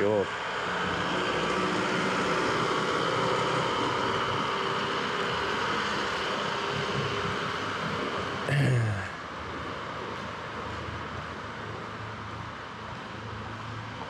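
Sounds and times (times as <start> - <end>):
street hum and hiss: 0.0 - 14.0.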